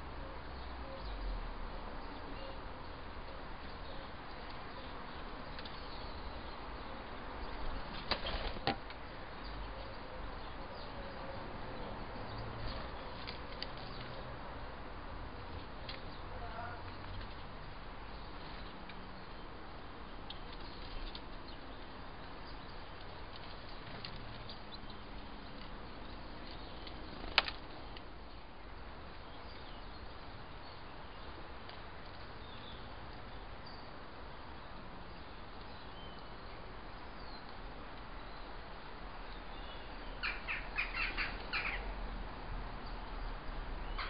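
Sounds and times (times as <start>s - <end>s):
steady outdoor hiss: 0.0s - 44.0s.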